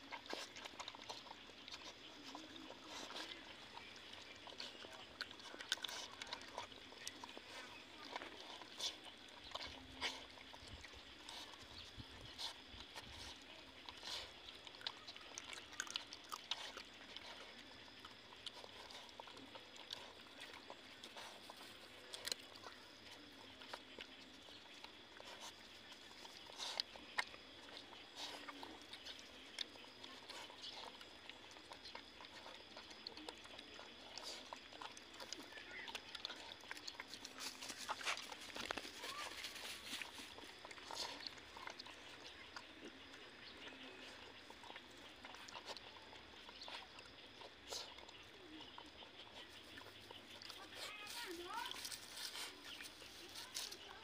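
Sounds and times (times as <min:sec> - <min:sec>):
puppies chewing and smacking: 0:00.0 - 0:54.0.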